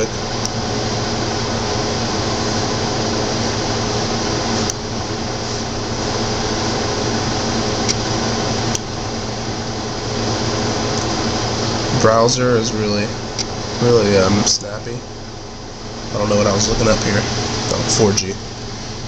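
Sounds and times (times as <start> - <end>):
mechanical whir and hum: 0.0 - 19.0.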